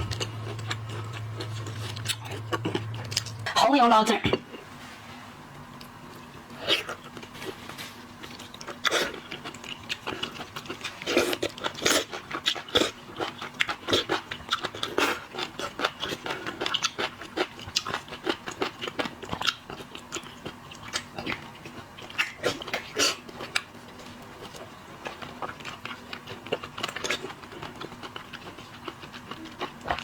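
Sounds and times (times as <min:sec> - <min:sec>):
crunching and wet chewing: 0:00.0 - 0:03.6, 0:05.8 - 0:30.0.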